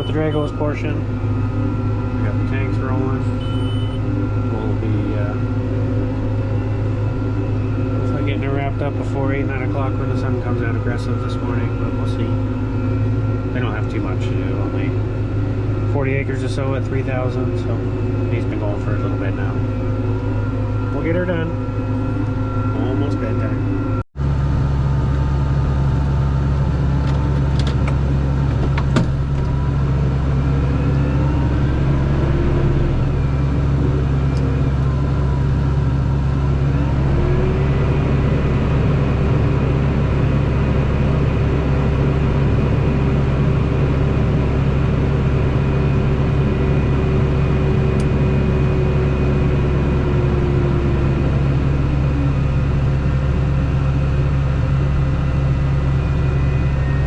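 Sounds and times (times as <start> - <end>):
large engine droning: 0.0 - 57.0
rising whine: 0.0 - 57.0.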